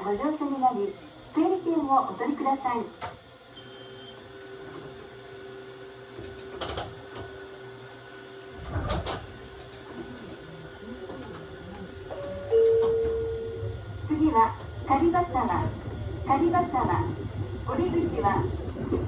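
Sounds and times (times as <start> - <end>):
electric train hum: 0.0 - 3.6, 4.2 - 19.0.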